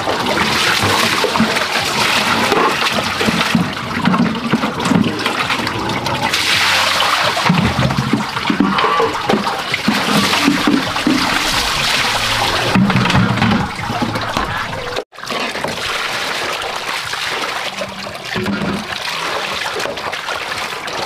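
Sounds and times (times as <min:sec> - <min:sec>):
water running into plastic basin: 0:00.0 - 0:21.0
water splashing over dishes: 0:00.0 - 0:21.0.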